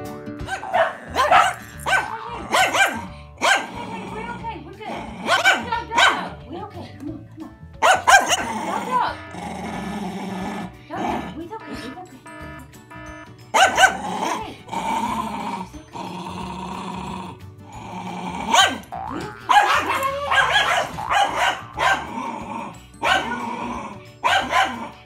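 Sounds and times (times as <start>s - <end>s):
music playing: 0.0s - 25.0s
small dog growling and barking: 0.4s - 4.3s, 4.9s - 6.3s, 7.8s - 11.3s, 13.6s - 25.0s.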